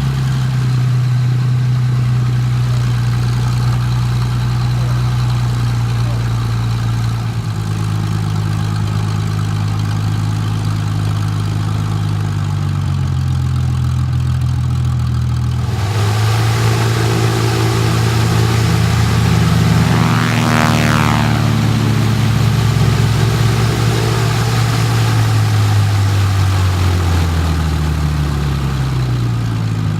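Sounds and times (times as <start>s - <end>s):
aircraft piston engine droning: 0.0s - 14.2s, 14.8s - 29.9s.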